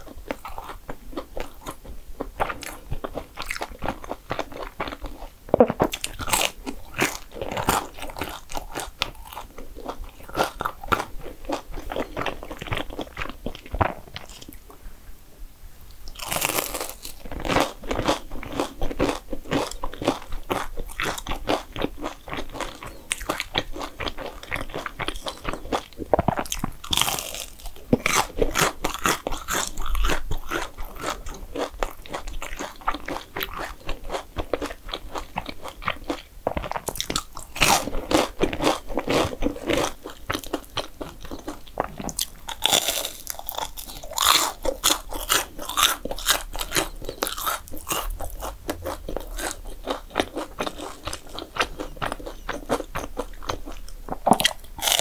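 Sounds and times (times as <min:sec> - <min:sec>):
person chewing crunchy food: 0:00.0 - 0:14.8, 0:16.0 - 0:55.0.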